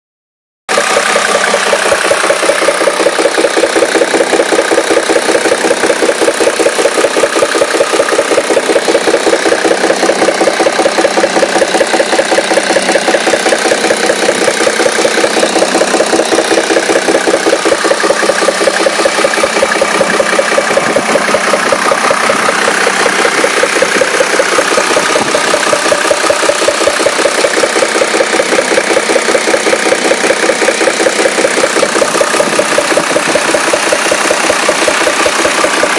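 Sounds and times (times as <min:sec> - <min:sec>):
diesel engine idling with knocking: 0:00.7 - 0:35.9.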